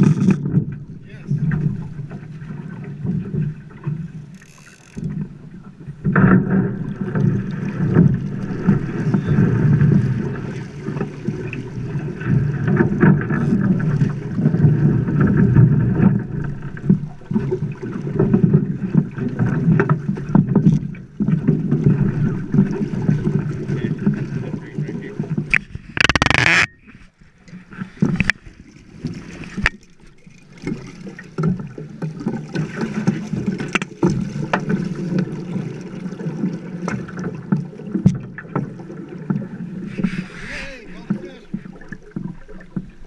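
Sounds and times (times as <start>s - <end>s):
water sloshing around boat: 0.0s - 43.0s.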